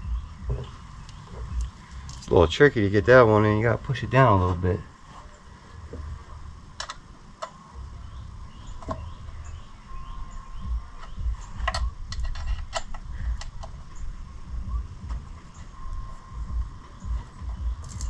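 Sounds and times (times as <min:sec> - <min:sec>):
low uneven rumble: 0:00.0 - 0:18.0.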